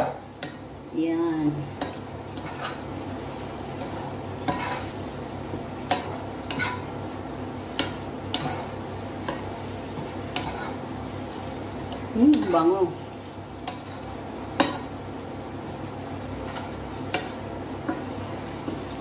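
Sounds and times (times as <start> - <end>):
low sizzle of simmering food: 0.0 - 19.0
wooden spatula stirring food: 1.7 - 15.0, 15.7 - 19.0.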